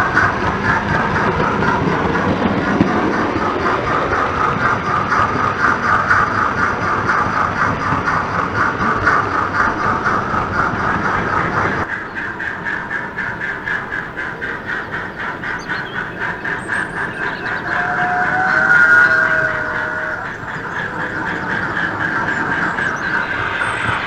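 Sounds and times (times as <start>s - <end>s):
model steam locomotive chuffing: 0.0s - 24.0s.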